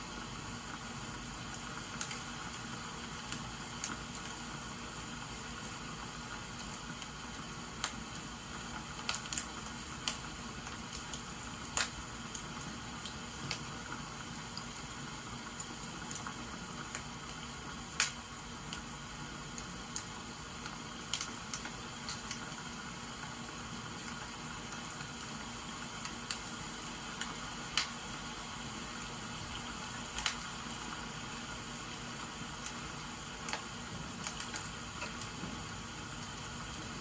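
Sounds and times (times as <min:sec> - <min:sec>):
rain hissing: 0:00.0 - 0:37.0
wood fire crackling: 0:00.0 - 0:37.0.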